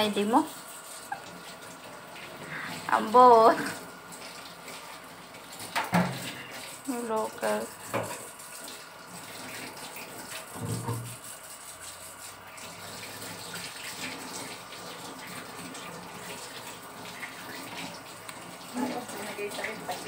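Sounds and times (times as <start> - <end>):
running water hiss: 0.0 - 20.0.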